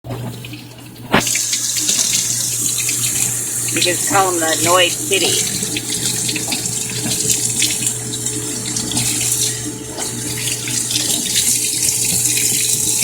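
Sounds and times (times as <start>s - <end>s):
water running from a tap: 0.1s - 13.0s.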